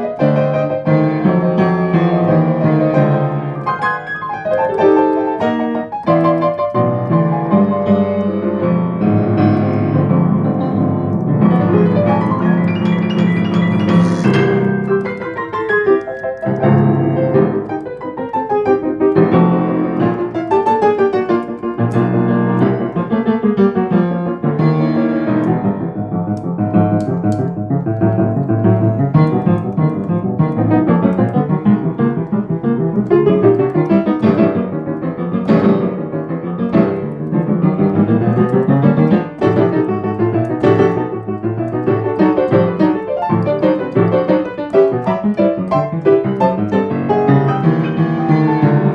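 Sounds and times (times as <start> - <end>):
acoustic piano playing: 0.0 - 48.9.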